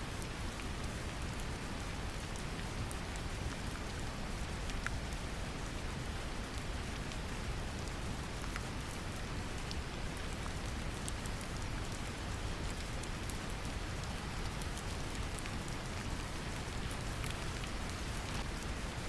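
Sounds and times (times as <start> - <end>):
brown noise rumbling hiss: 0.0 - 19.0
gentle rain: 0.0 - 19.0
raindrop ticks: 0.2 - 18.7.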